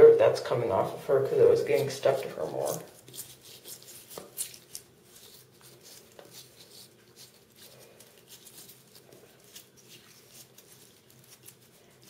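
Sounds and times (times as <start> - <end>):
toothbrush scrubbing turtle shell: 0.5 - 12.0.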